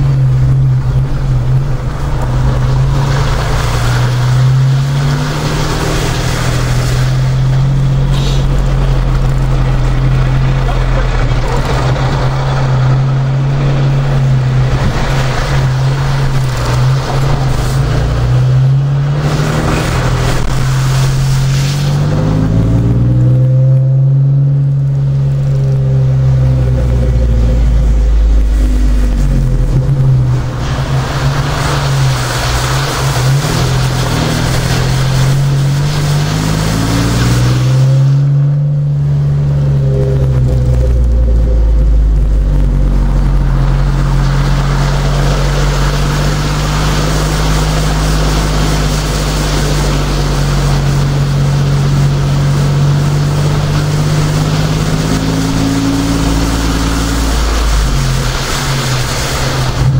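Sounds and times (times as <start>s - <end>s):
car engine running: 0.0s - 59.9s
tyres hissing through floodwater: 1.8s - 23.0s, 28.1s - 38.6s, 42.8s - 59.9s.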